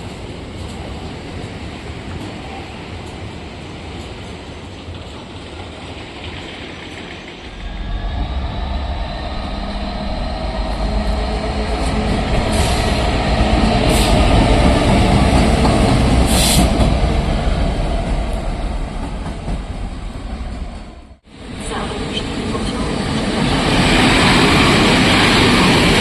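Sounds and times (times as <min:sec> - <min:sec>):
train wheels on rail: 0:00.0 - 0:26.0
diesel locomotive engine rumbling: 0:04.1 - 0:26.0.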